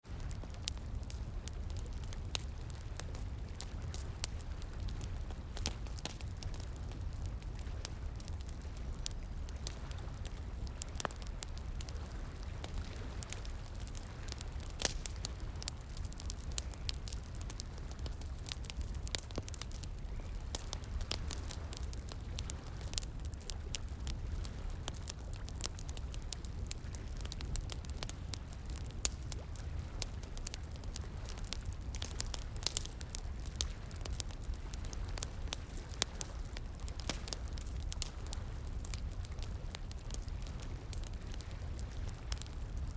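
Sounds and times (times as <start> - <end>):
bonfire crackling and popping: 0.0 - 42.9.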